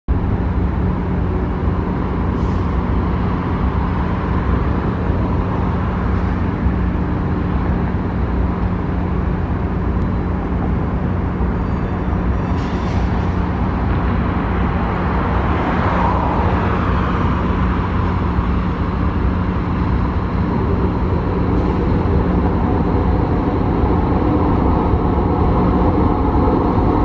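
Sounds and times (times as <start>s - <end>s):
streetcar running on track: 0.1s - 27.0s.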